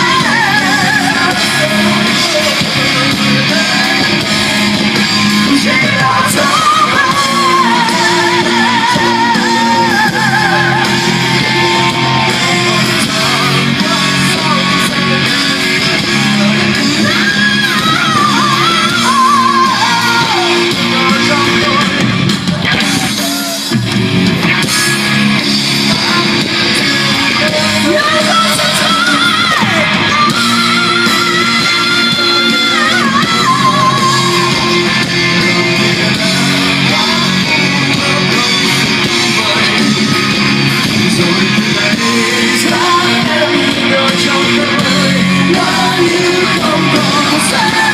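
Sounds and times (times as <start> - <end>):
bass guitar: 0.0 - 47.9
drums: 0.0 - 47.9
lead electric guitar with bends: 0.0 - 47.9
rhythm guitar: 0.0 - 47.9.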